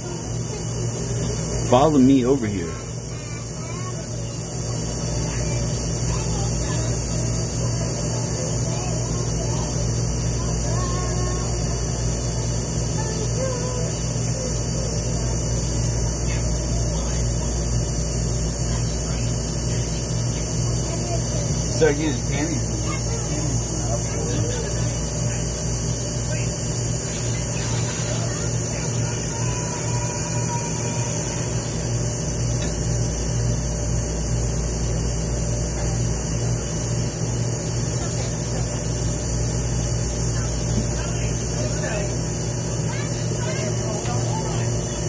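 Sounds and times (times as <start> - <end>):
constant hiss: 0.0 - 45.0
distant voices: 0.0 - 45.0
steady low hum: 0.0 - 45.0.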